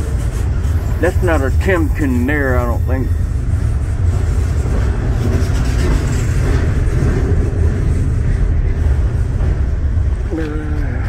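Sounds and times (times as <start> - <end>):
low rumble of rail yard: 0.0 - 11.0.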